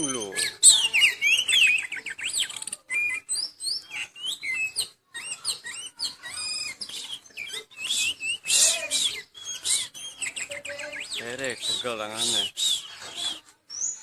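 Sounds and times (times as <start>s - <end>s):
bird singing whistled notes: 0.0s - 14.0s.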